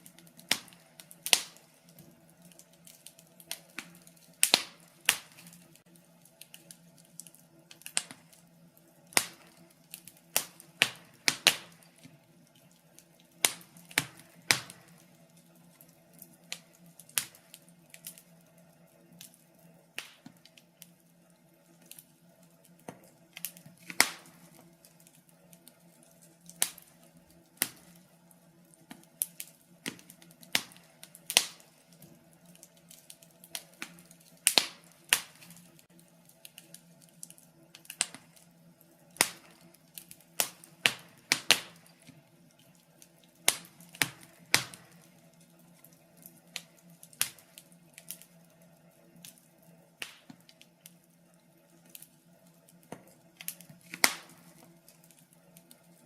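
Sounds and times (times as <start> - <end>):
logs crackling in a fireplace: 0.0 - 56.0.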